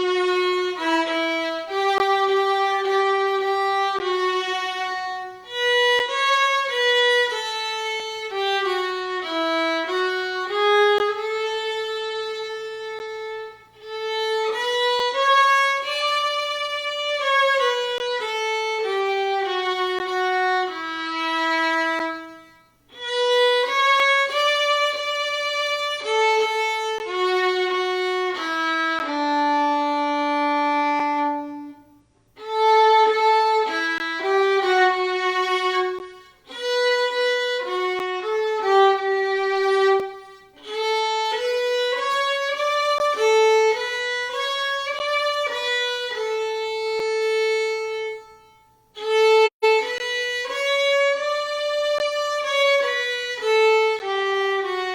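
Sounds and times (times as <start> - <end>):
solo violin playing slow melody: 0.0 - 54.9.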